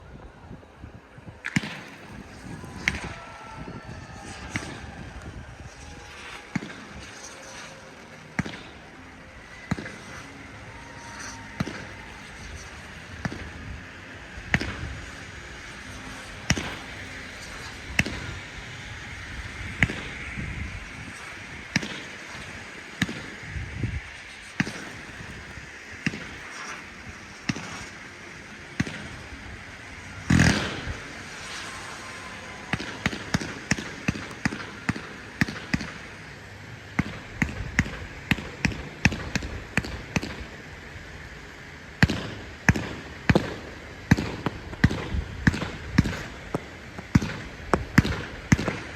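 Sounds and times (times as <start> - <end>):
firework burst: 1.2 - 48.9
fireworks popping: 1.4 - 48.9.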